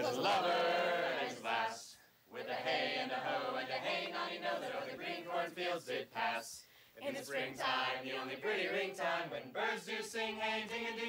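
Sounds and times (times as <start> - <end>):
group singing in unison: 0.0 - 11.0.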